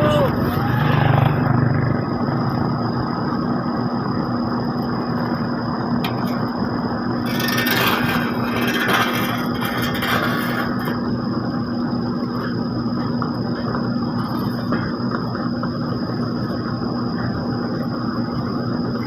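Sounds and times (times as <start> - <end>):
heavy machinery engines humming: 0.0 - 19.0.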